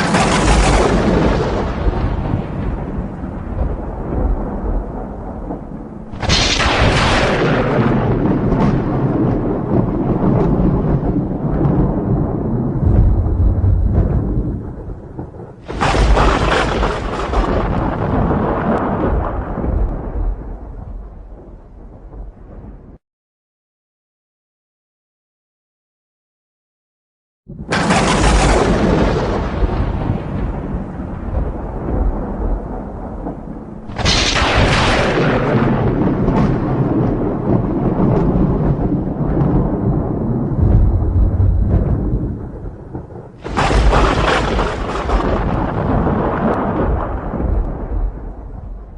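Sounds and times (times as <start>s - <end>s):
thunder rumbling and cracking: 0.0s - 23.0s, 27.5s - 48.9s.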